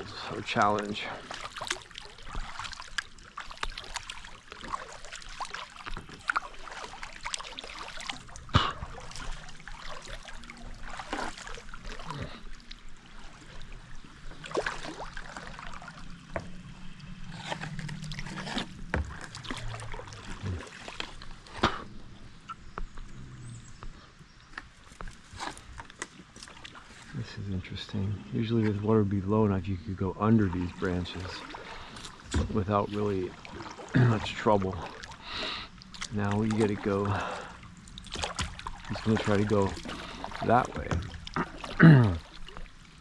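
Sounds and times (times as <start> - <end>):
water splashing and dripping: 0.0 - 22.2, 25.0 - 43.0
paddle pulling through water: 0.0 - 43.0.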